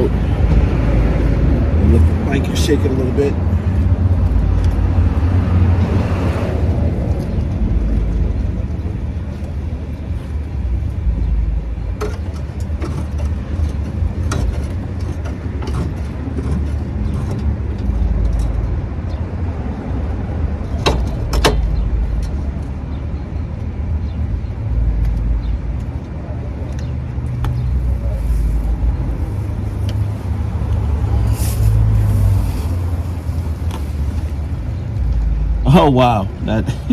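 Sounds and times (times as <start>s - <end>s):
vehicle engine rumble: 0.0s - 36.9s.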